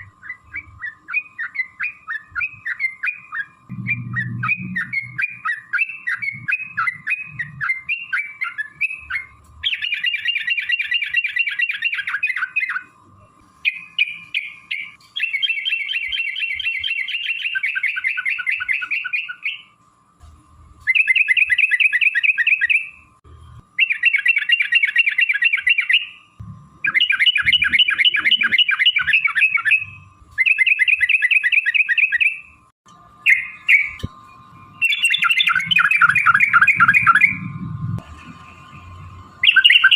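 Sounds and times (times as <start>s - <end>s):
bird singing chirps and rolling notes: 0.0s - 19.8s, 20.8s - 39.9s.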